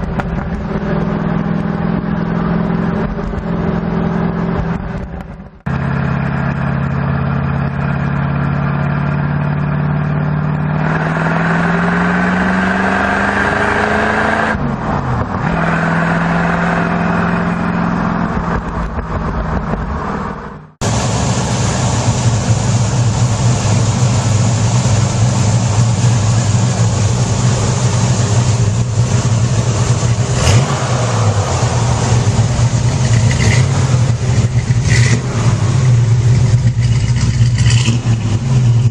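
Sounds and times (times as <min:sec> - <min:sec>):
car engine revving: 0:00.0 - 0:38.9
car engine running rough: 0:00.0 - 0:38.9.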